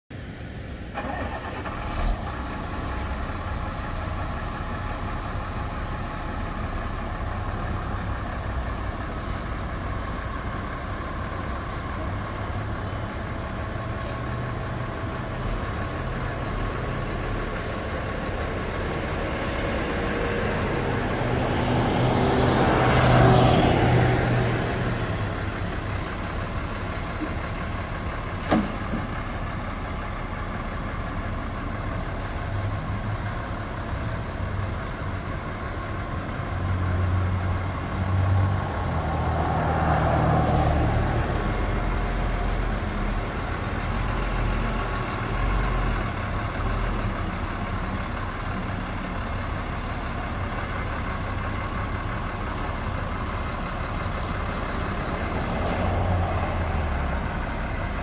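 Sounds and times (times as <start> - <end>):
diesel truck engine running: 0.1 - 58.0.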